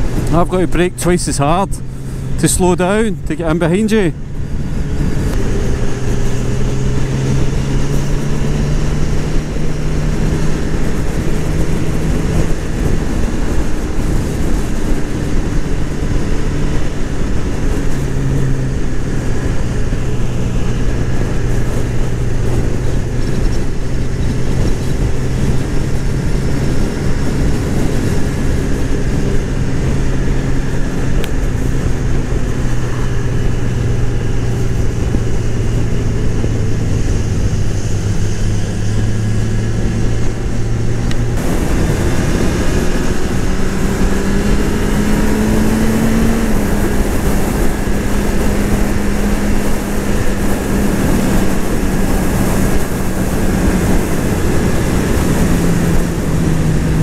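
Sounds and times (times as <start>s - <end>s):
motorcycle engine cruising: 0.0s - 57.0s
wind rush over microphone: 0.0s - 57.0s.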